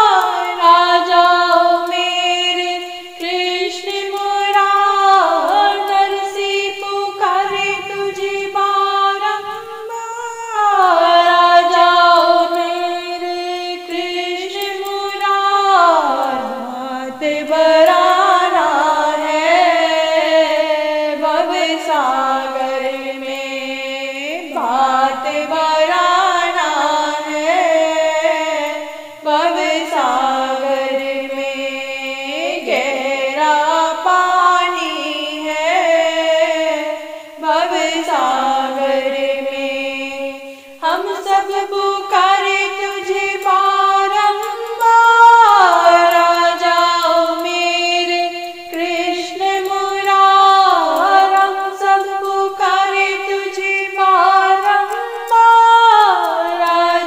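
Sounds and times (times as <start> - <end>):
woman singing devotional song: 0.0 - 57.0.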